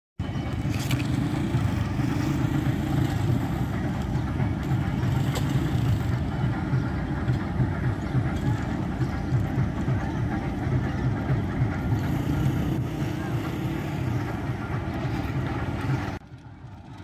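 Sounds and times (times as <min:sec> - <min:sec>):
locomotive engine idling: 0:00.2 - 0:17.0.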